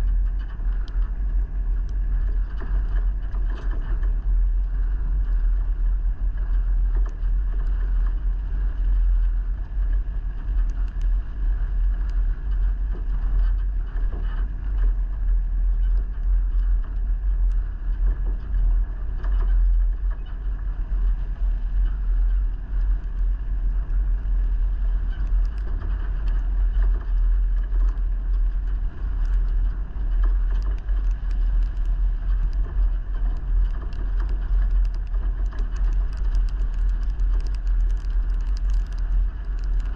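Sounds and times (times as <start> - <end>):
light ticks and rattles: 0.0 - 39.9
vehicle engine rumble: 0.0 - 39.9.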